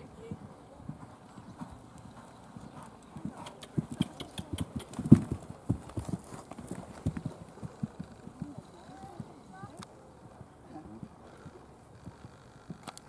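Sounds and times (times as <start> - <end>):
horse hoofbeats on sand: 0.0 - 12.9.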